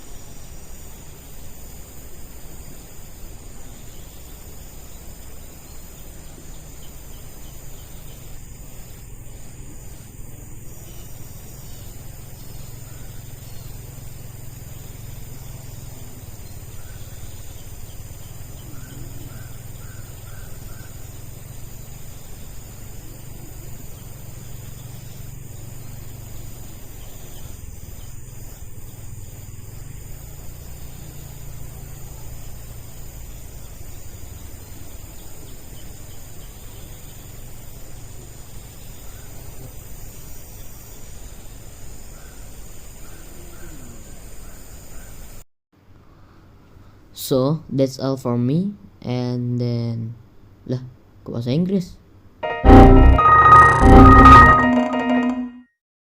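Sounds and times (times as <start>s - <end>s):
insects chorus: 0.0s - 45.4s.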